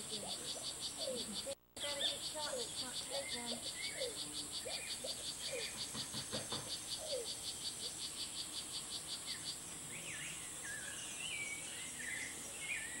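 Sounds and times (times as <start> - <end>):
high insect hiss: 0.0 - 13.0
insect chirping: 0.0 - 13.0.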